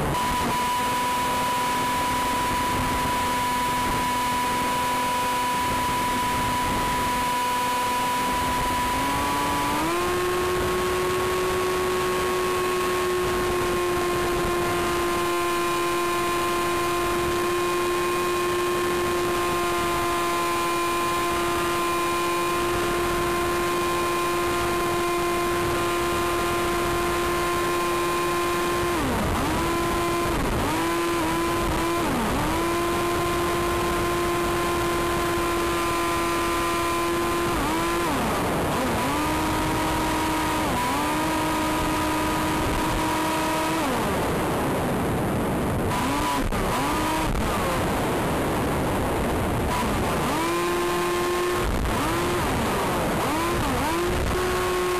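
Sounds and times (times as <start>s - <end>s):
electric motor propeller whine: 0.0s - 54.9s.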